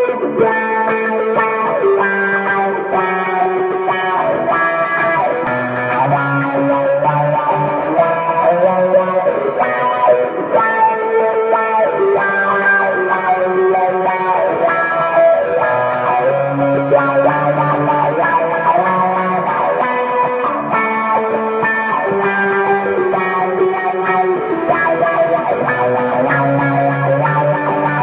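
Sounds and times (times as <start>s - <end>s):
electric guitar riff with wah: 0.0s - 28.0s.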